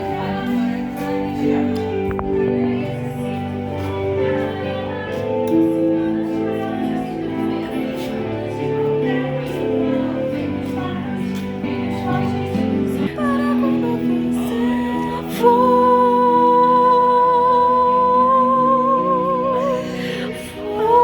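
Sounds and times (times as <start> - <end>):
background music with sustained notes: 0.0 - 21.0.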